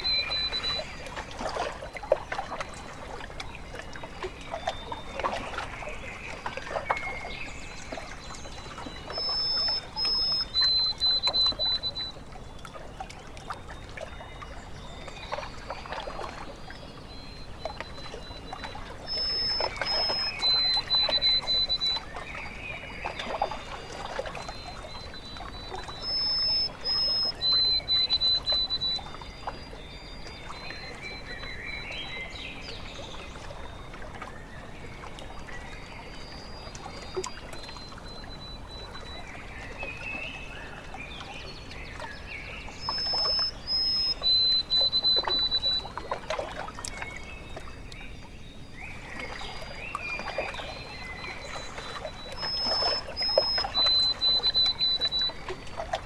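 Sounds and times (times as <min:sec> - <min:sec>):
bird whistling song: 0:00.0 - 0:01.3, 0:04.0 - 0:12.3, 0:14.4 - 0:33.9, 0:35.3 - 0:56.0
water lapping at shore: 0:00.0 - 0:56.0.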